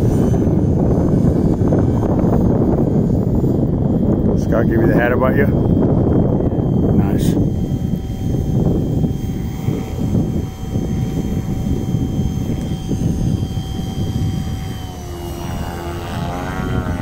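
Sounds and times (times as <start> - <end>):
rc helicopter rotor whine: 0.0 - 17.0
wind rumble on microphone: 0.0 - 17.0.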